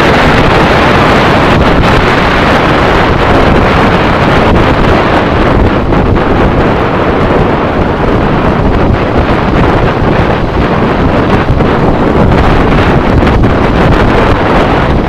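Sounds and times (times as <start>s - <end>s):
heavy wind noise on microphone: 0.0s - 15.0s.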